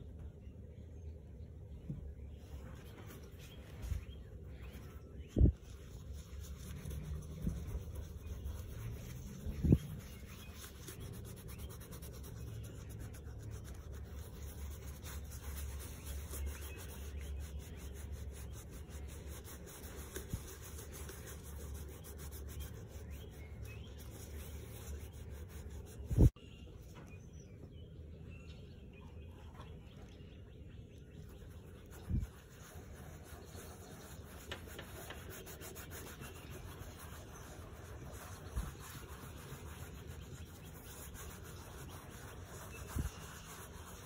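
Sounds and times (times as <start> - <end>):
gloved hands rubbing leather: 2.4 - 26.4, 31.2 - 44.0.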